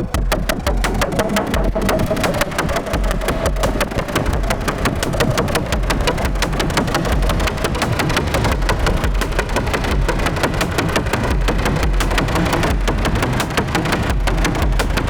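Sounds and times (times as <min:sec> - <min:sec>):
low buzzing synth drone: 0:00.0 - 0:15.0
rapid ticking drum machine rhythm: 0:00.0 - 0:15.0.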